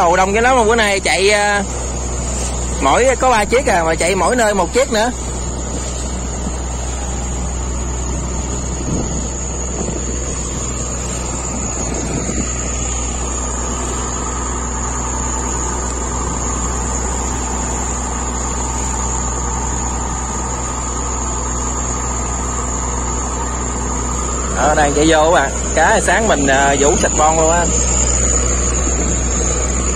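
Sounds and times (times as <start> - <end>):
boat engine humming: 0.0 - 29.9
water rushing along hull: 0.0 - 29.9.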